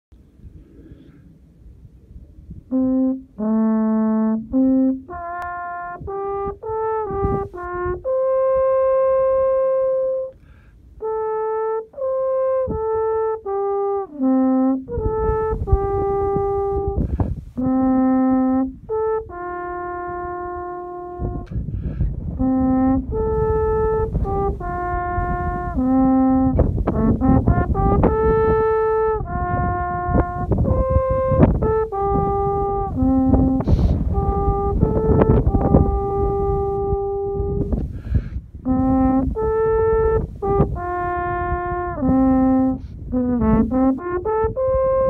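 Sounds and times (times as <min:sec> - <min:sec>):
wind rumble on microphone: 0:00.2 - 0:45.0
solo horn playing folk melody: 0:02.5 - 0:45.0.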